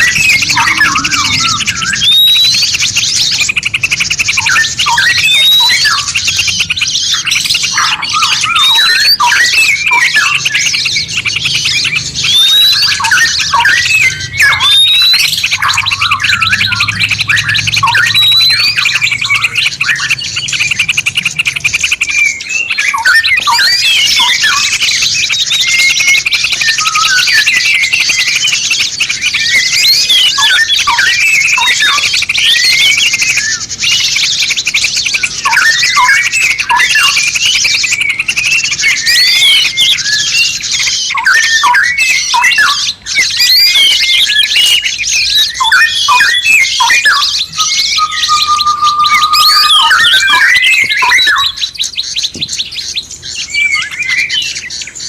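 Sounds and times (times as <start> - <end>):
bird whistle: 0.0 - 55.0
songbird chirps and trills: 0.0 - 55.0.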